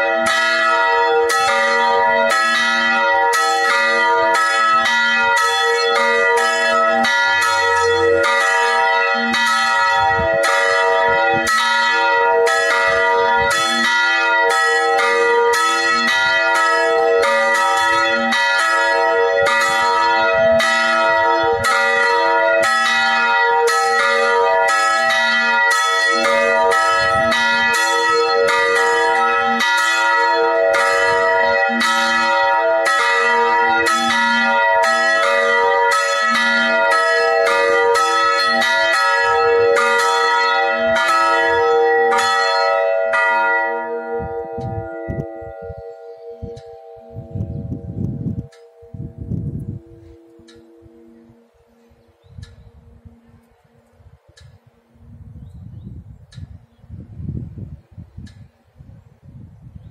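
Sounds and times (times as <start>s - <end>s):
church bells ringing: 0.0s - 55.2s.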